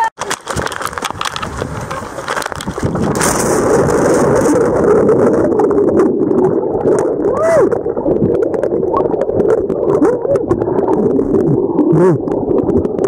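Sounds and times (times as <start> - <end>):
muffled underwater bubbling: 1.5 - 13.0.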